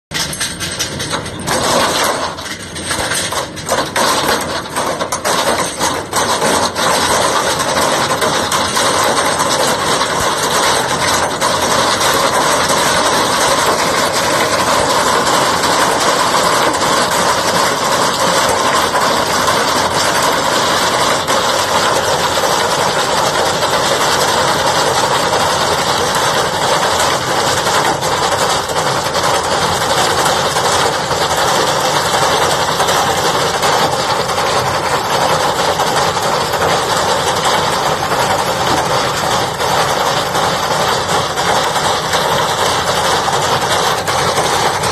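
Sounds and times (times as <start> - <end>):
irregular mechanical knocks: 0.1 - 44.9
muck spreader chain and beaters: 0.1 - 44.9
tractor engine running: 0.1 - 44.9.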